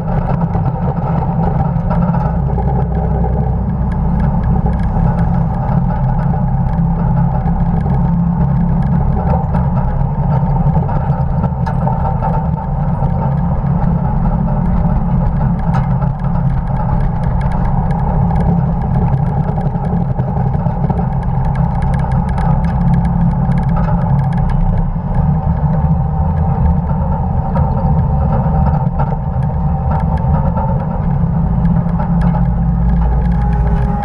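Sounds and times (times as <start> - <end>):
road noise: 0.0 - 34.0
small rattles: 0.0 - 34.0
truck engine rumbling: 0.0 - 34.0.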